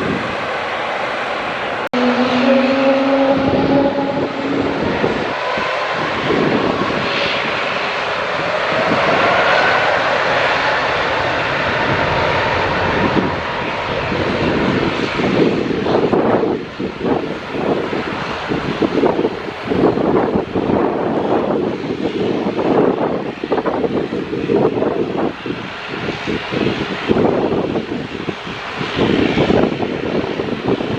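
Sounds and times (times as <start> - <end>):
jet engines passing close by: 0.0 - 30.9
wind buffeting microphone: 0.0 - 30.9.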